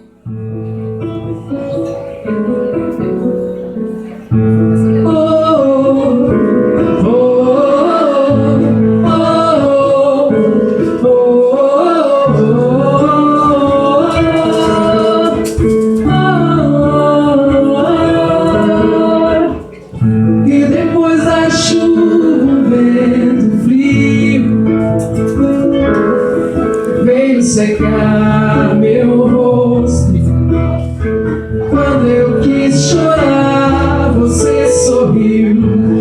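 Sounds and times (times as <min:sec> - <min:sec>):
guitar: 0:00.0 - 0:36.0
live pop-rock band playing: 0:00.0 - 0:36.0.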